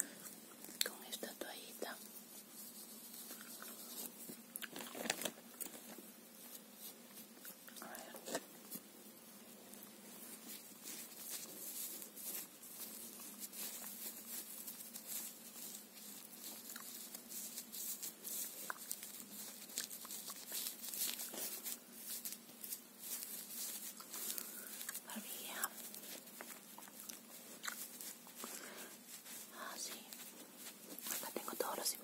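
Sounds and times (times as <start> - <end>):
scratching and rustling on microphone: 0.0 - 32.0.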